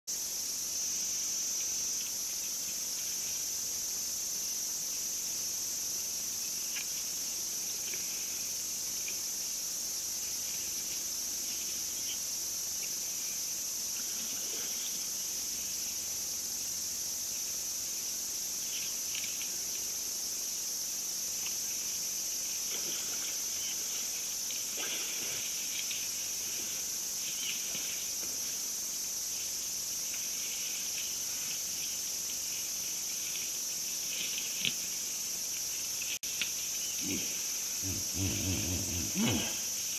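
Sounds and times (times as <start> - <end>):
insects chirping shrilly: 0.1 - 39.9.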